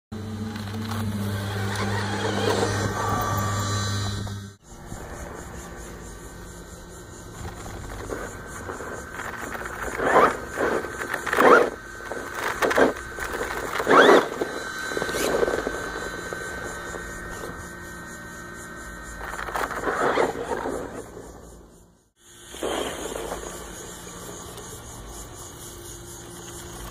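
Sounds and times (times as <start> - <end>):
electric toy car motor whining: 0.2 - 5.6, 7.0 - 26.9.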